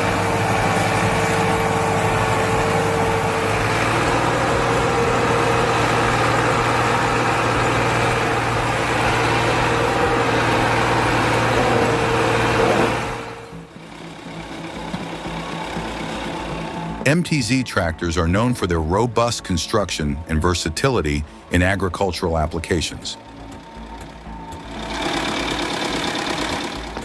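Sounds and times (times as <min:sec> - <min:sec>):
steady whining tone: 0:00.0 - 0:18.9, 0:22.5 - 0:27.0
tractor diesel engine under load: 0:00.0 - 0:27.0.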